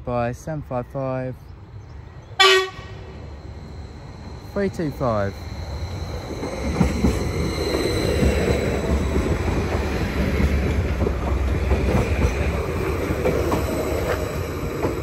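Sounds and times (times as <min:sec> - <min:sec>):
train rumbling on rails: 0:00.5 - 0:15.0.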